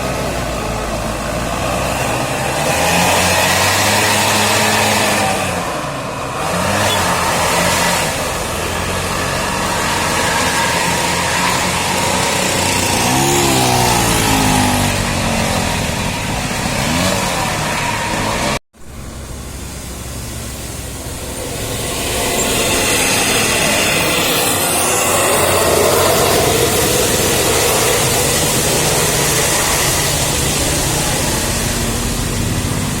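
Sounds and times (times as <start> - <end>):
large vehicle engines running: 0.0 - 33.0.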